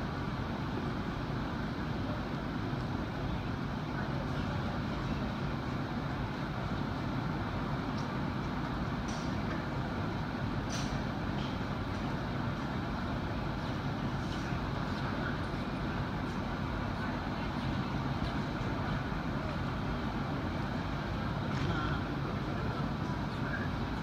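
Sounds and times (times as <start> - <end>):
faint distant voices: 0.8 - 10.2, 10.8 - 24.0.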